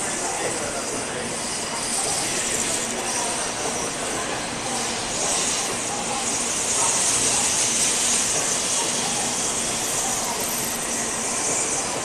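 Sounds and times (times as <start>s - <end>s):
train running noise with hiss: 0.0s - 12.0s.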